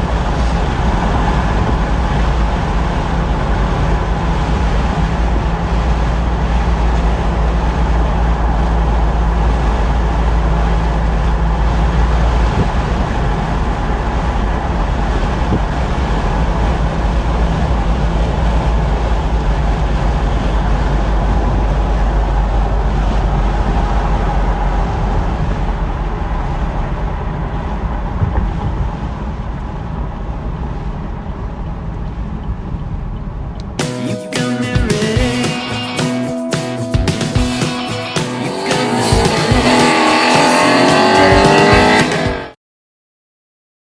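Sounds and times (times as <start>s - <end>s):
road and wind noise: 0.0s - 33.8s, 36.4s - 42.6s
car engine rumble: 0.0s - 42.6s.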